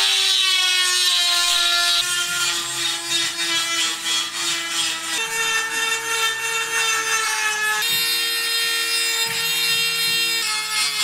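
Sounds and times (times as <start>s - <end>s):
power grinder grinding steel: 0.0s - 11.0s.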